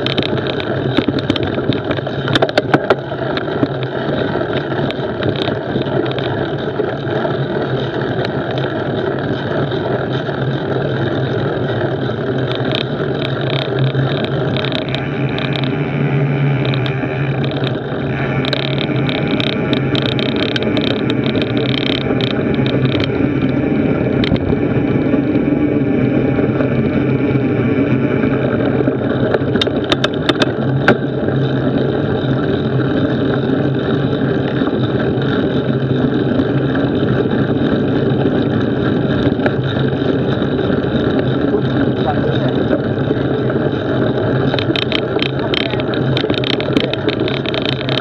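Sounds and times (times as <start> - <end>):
bike clicking and rattling: 0.0 - 48.0
bike tyres rolling on gravel: 0.0 - 48.0.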